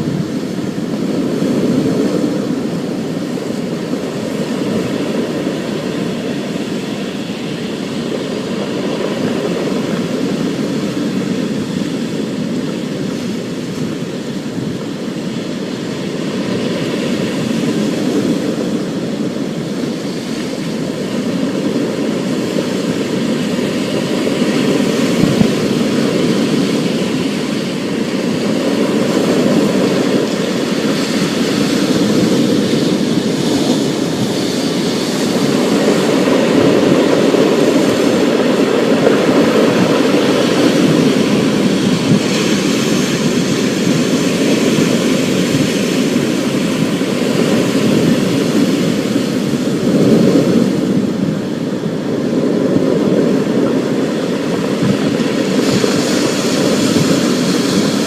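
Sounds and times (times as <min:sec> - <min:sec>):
storm noise rushing: 0:00.0 - 0:58.0.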